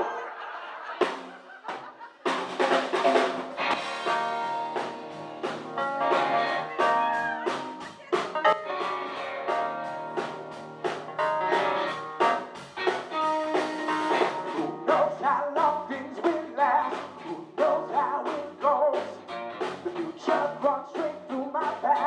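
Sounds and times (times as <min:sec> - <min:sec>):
steady drum beat: 0:01.0 - 0:22.0
live soul band playing: 0:02.2 - 0:22.0.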